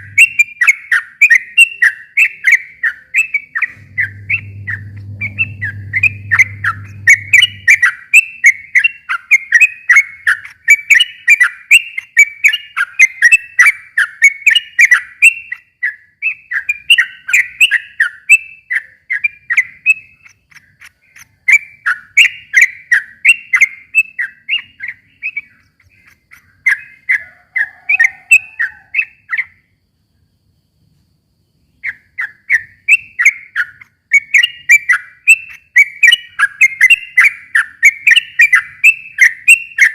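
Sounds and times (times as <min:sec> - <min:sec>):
bulbul singing chirping phrases: 0:00.0 - 0:30.3, 0:31.5 - 0:39.9.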